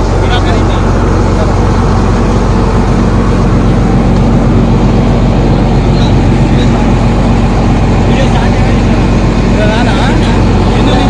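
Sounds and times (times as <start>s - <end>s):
boat engine droning: 0.0s - 11.0s
rush of noise: 0.0s - 11.0s.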